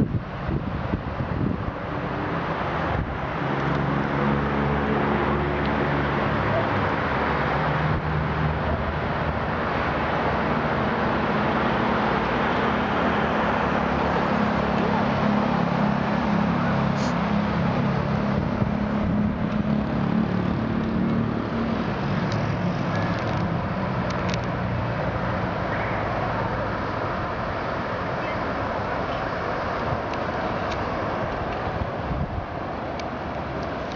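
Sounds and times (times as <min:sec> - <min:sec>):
road traffic noise: 0:00.0 - 0:33.9
vehicle engine hum: 0:00.0 - 0:33.9.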